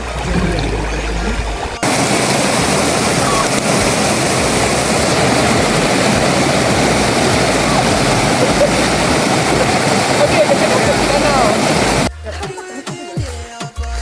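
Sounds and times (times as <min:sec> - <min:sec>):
low hum: 0:00.0 - 0:12.1
rushing water: 0:00.0 - 0:12.1
trickling water: 0:00.0 - 0:12.1.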